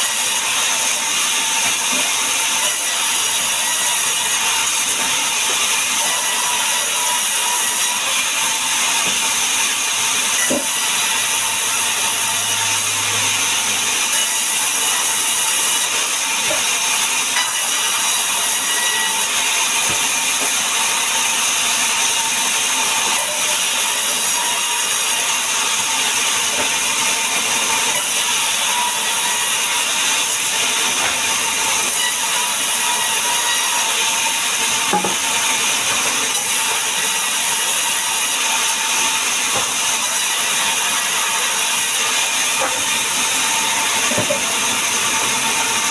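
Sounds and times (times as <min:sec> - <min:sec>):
band saw blade whining through wood: 0:00.0 - 0:45.9.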